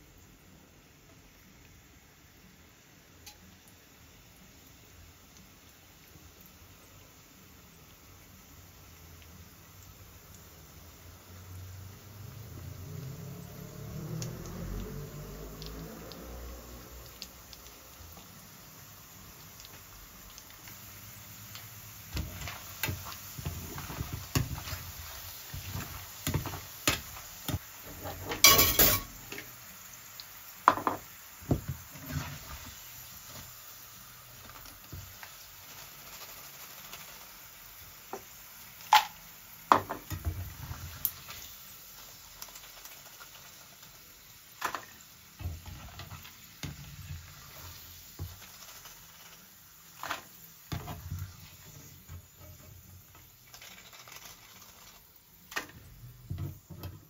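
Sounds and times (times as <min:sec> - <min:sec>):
frying sizzle: 0:00.0 - 0:57.0.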